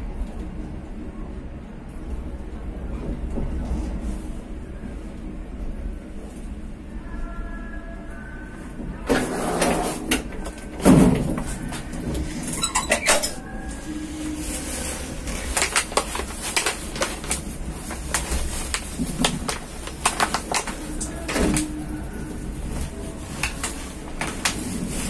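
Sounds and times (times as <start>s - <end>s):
train wheels rumbling on track: 0.0s - 7.4s, 8.6s - 25.0s.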